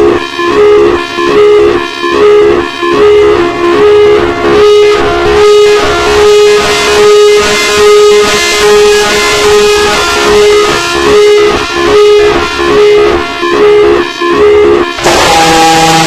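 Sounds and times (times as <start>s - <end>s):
two-tone warning siren: 0.0s - 16.0s.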